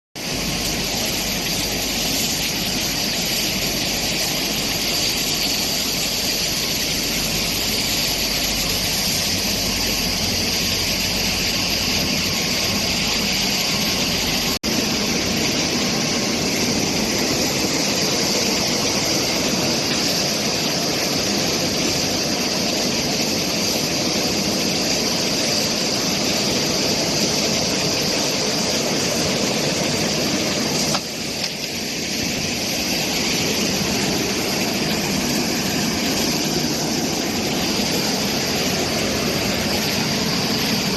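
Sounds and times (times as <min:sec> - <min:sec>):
machine noise: 0:00.2 - 0:40.9
water jets spraying: 0:00.2 - 0:40.9.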